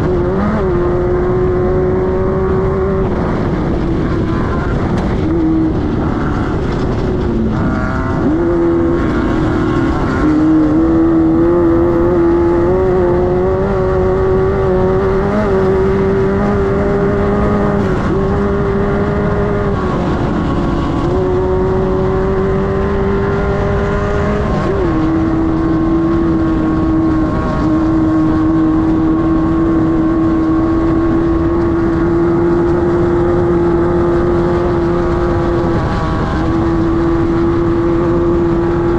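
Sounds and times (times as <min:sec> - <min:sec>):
race car engine at high revs: 0:00.0 - 0:38.9
rough car noise: 0:00.0 - 0:38.9.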